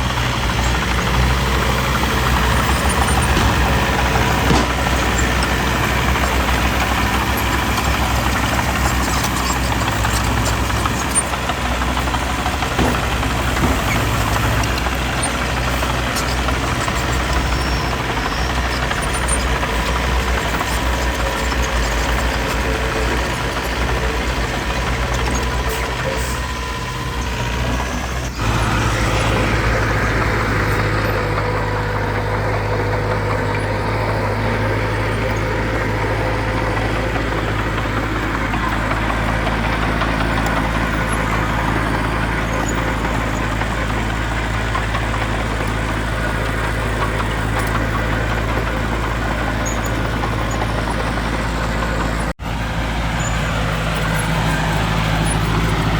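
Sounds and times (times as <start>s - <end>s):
diesel engine of earthmover: 0.0s - 55.9s.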